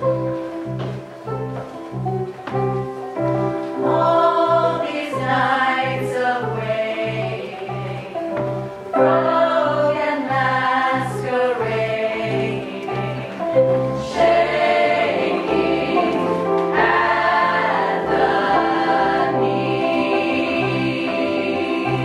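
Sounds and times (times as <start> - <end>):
choir singing: 3.5 - 22.0.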